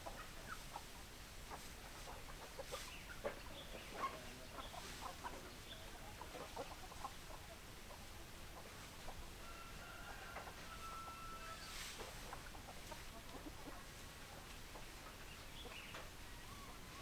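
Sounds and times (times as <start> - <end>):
hens clucking: 0.0 - 9.3, 10.3 - 17.0.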